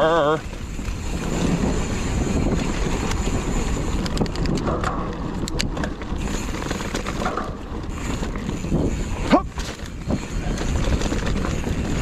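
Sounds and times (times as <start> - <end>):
bike clicks and rattles: 0.0 - 12.0
tyres rumbling on dirt trail: 0.0 - 12.0
wind on microphone: 0.0 - 12.0.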